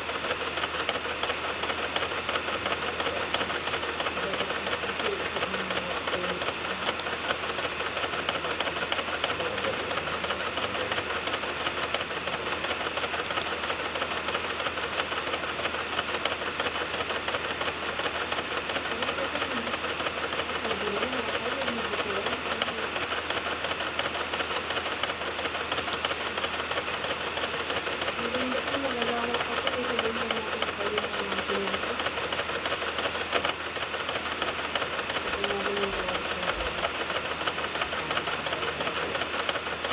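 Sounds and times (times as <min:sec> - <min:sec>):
disc drive clicking: 0:00.0 - 0:39.9
spinning disc hum: 0:00.0 - 0:39.9.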